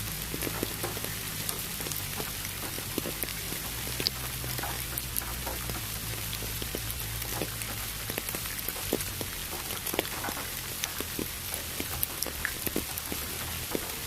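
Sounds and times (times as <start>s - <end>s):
low steady rumble: 0.0s - 14.0s
rain drops hitting: 0.0s - 14.0s.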